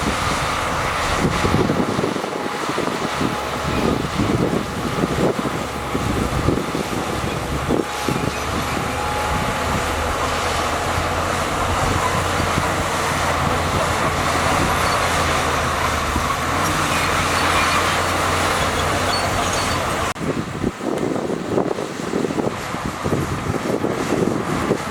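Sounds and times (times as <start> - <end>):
diesel engine drone: 0.0 - 24.9.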